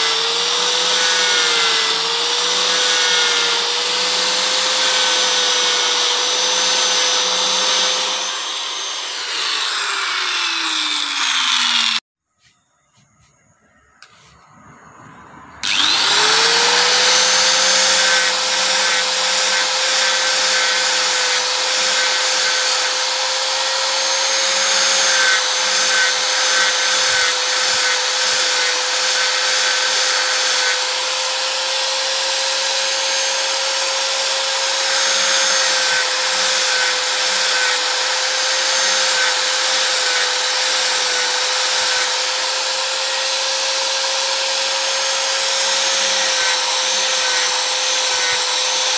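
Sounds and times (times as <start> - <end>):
angle grinder whining: 0.0 - 48.9.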